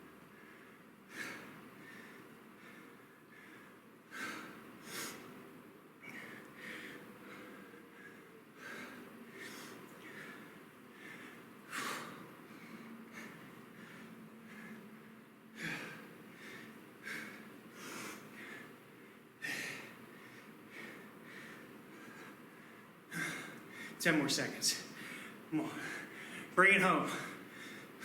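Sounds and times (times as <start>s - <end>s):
man breathing hard: 0.1s - 28.0s.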